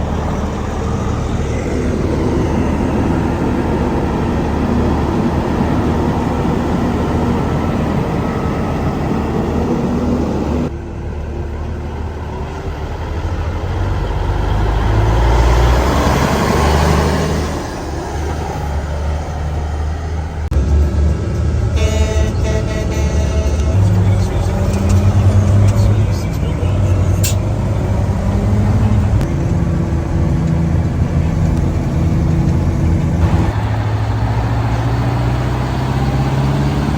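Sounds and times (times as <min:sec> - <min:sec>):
engine revving: 0:00.0 - 0:36.9
vintage trucks driving past: 0:00.0 - 0:36.9.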